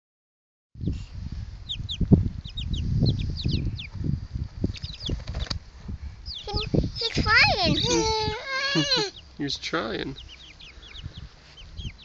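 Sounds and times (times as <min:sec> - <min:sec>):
chickens cheeping: 0:00.8 - 0:05.6, 0:06.2 - 0:12.0
low uneven rumble: 0:00.9 - 0:12.0.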